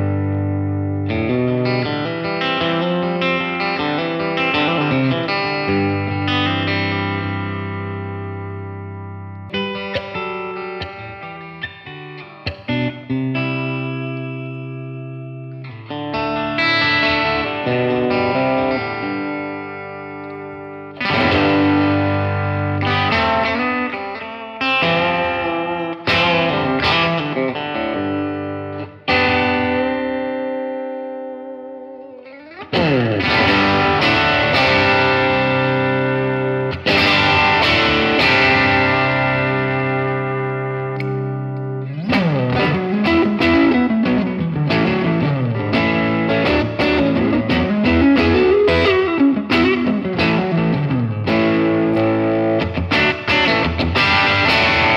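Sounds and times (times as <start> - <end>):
clean electric guitar chords: 0.0 - 54.9.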